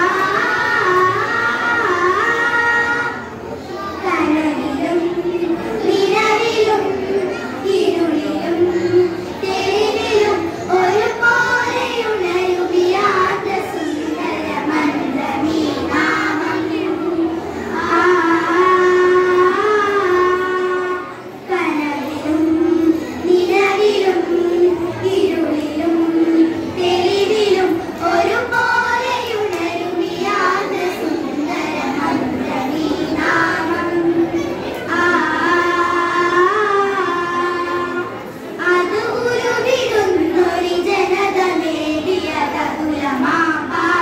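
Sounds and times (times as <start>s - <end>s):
girls singing together: 0.0s - 44.0s.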